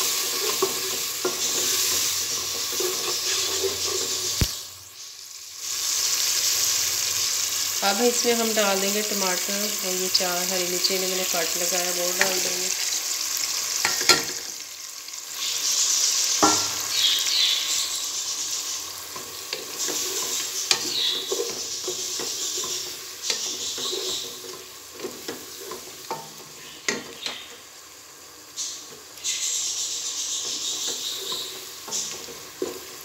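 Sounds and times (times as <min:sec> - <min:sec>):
food sizzling in a pot: 0:00.0 - 0:33.0.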